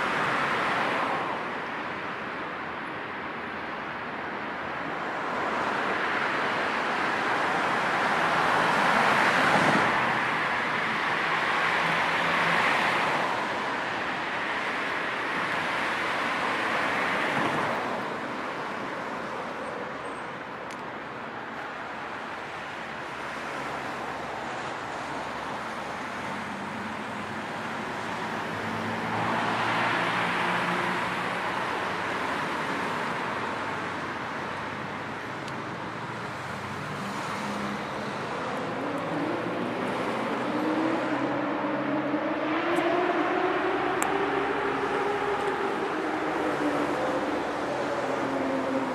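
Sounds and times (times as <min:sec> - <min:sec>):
cars passing: 0:00.0 - 0:48.9
traffic tyres and engines hiss: 0:00.0 - 0:48.9.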